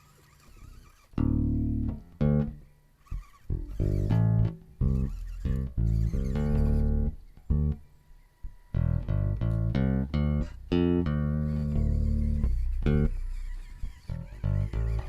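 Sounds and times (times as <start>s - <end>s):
plucked bass guitar: 1.2s - 15.0s.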